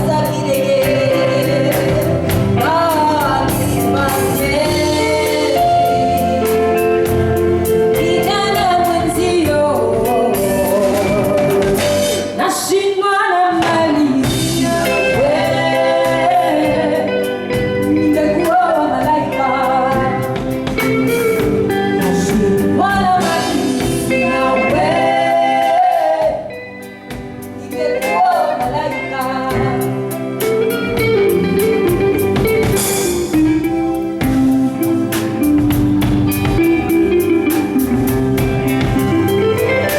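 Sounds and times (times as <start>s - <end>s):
person singing lead vocal: 0.0s - 33.4s
live band playing: 0.0s - 39.9s.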